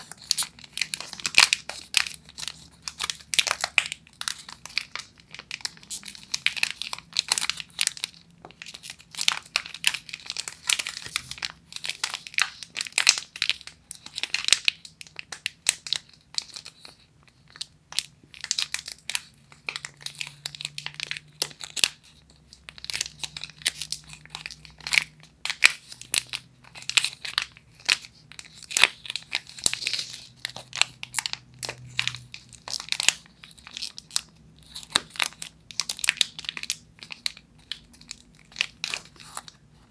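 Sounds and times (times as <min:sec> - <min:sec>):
plastic wrapper crackling: 0:00.0 - 0:39.9.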